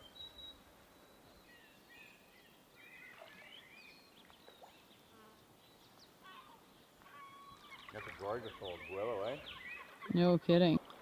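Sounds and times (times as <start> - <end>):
faint bird chirps and whistles: 0.0 - 5.0, 5.6 - 10.2.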